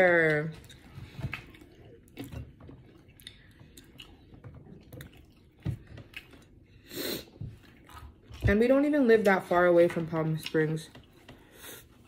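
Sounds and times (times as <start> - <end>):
chewing and mouth sounds: 0.5 - 12.0.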